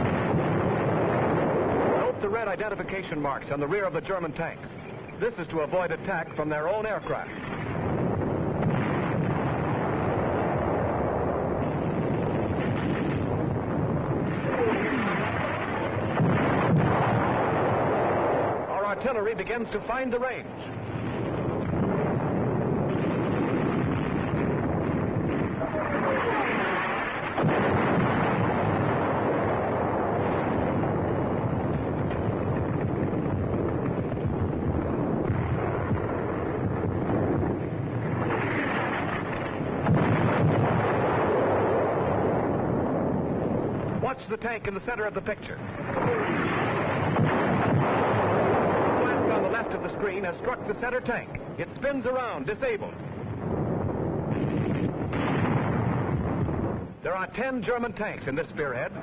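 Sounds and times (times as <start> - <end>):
artillery and gunfire rumble: 0.0 - 59.0.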